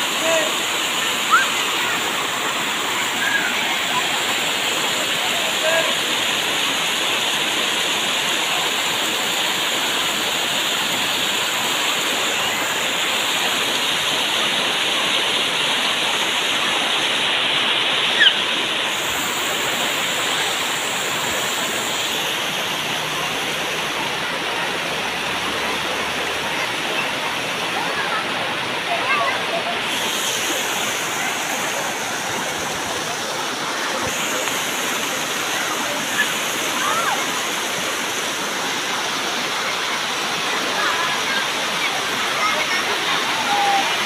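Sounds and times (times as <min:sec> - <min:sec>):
water cascading over rock: 0:00.0 - 0:44.0.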